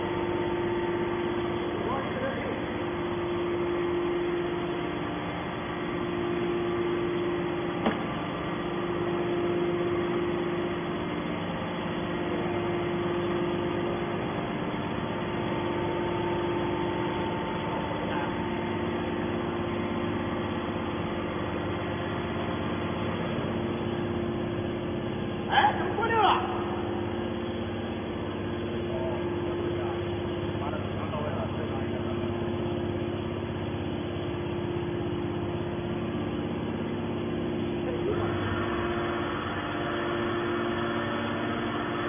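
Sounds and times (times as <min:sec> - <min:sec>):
hydraulic power unit humming: 0:00.0 - 0:42.0.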